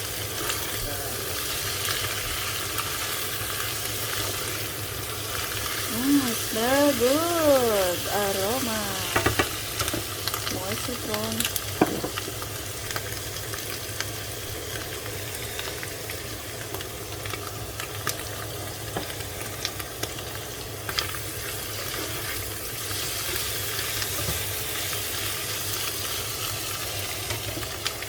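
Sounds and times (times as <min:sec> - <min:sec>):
mushrooms sizzling in a pan: 0:00.0 - 0:28.0.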